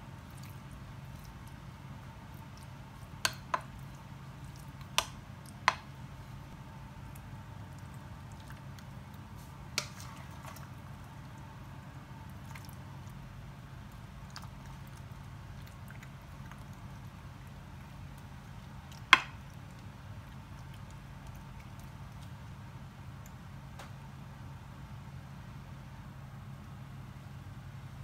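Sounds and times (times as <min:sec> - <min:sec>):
soft wet squishing: 0:00.0 - 0:23.5
steady low hum: 0:00.0 - 0:28.0.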